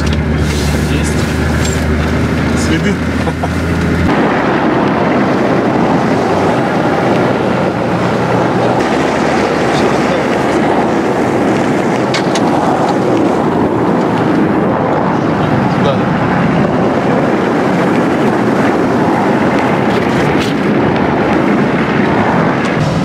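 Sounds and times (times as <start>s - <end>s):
vehicle engine and tyre noise: 0.0s - 23.0s
wind rushing on microphone: 0.0s - 23.0s.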